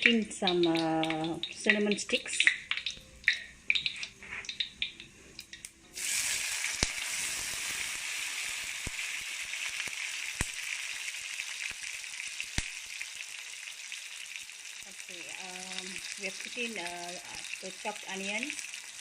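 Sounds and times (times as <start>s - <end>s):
onions sizzling in hot oil: 0.0s - 5.0s, 5.9s - 19.0s.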